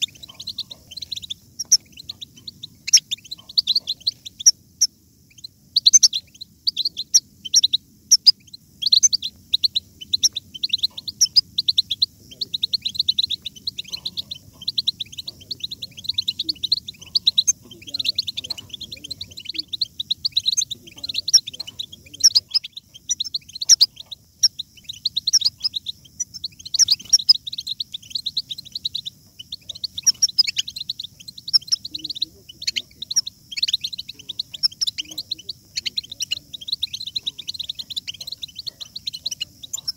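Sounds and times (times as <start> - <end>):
finches twittering and singing: 0.0 - 39.9.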